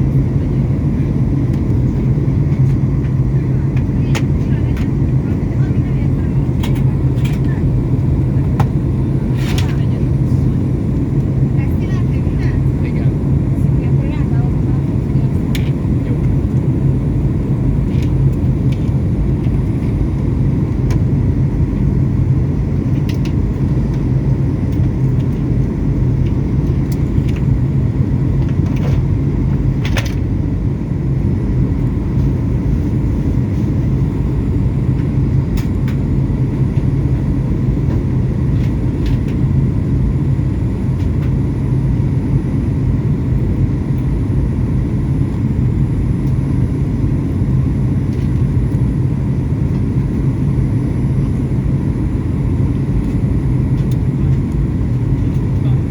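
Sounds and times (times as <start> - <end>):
airliner engines and airflow roar: 0.0 - 55.9.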